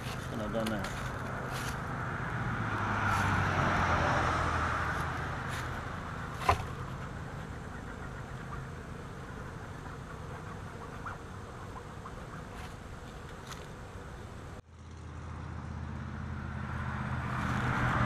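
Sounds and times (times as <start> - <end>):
bees buzzing: 0.0 - 14.6.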